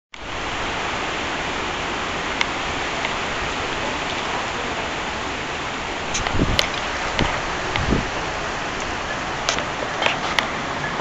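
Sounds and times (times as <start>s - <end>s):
steady rain hiss: 0.2s - 11.0s
raindrops ticking: 1.9s - 11.0s.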